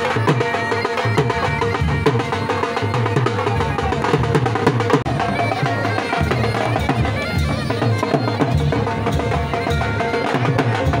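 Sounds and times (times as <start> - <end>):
bagpipe folk melody: 0.0 - 11.0
drums beating steady rhythm: 0.0 - 11.0.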